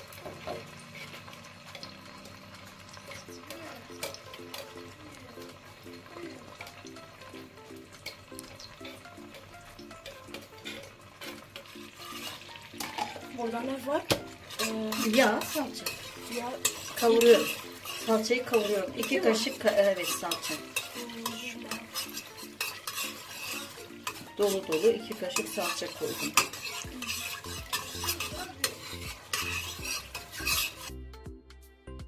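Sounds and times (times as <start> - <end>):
oil sizzling: 0.0 - 31.0
background music: 0.0 - 32.0
metal spoon scraping a pot: 0.2 - 4.8, 5.4 - 31.0.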